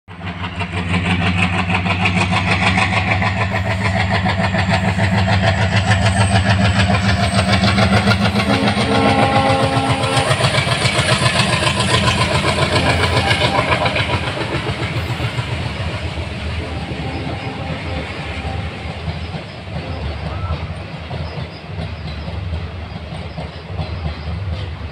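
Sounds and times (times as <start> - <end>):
diesel locomotive engine drone: 0.1 - 24.9.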